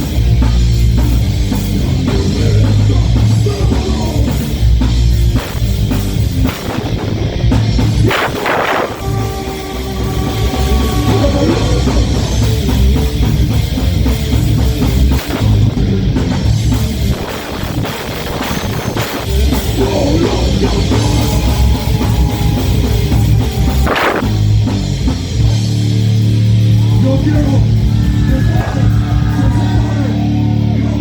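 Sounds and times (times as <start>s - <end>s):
drum kit: 0.0s - 31.0s
electric guitars: 0.0s - 31.0s.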